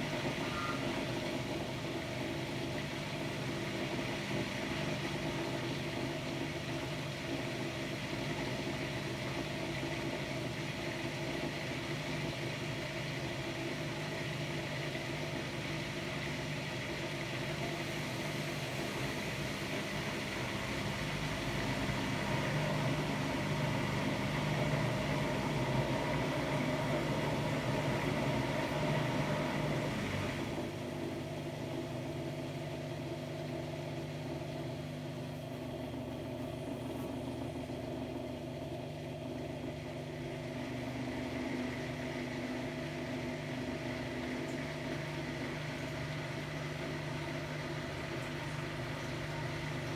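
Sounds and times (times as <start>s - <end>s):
washer-dryer motor hum: 0.0s - 49.9s.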